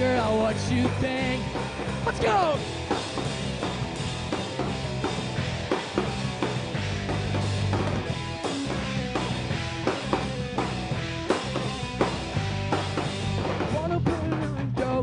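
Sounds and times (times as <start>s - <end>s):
bass guitar: 0.0s - 15.0s
drum kit steady beat: 0.0s - 15.0s
electric guitar: 0.0s - 15.0s.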